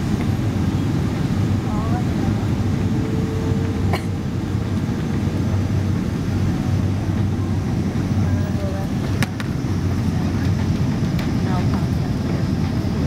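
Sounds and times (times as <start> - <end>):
airplane cabin engine drone: 0.0 - 13.0.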